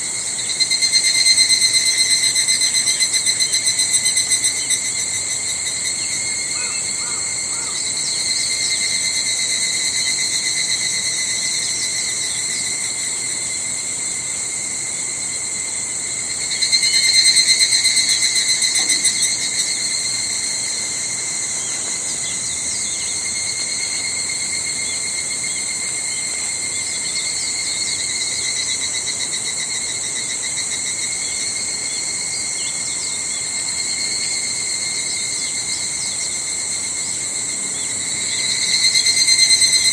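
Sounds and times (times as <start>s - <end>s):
cicadas chorus: 0.0s - 39.9s
rapidly pulsing cicada call: 0.0s - 39.9s.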